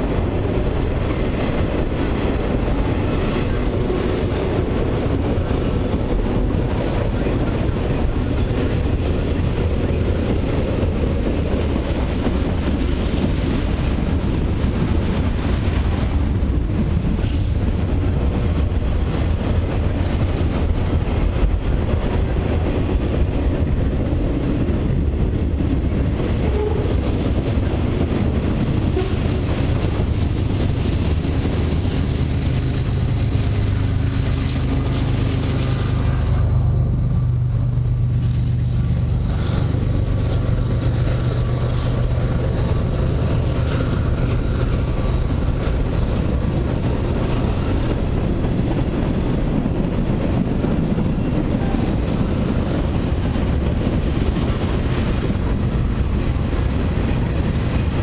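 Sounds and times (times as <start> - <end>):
diesel locomotive drone: 0.0 - 58.0
train wheels rumbling on rails: 0.0 - 58.0.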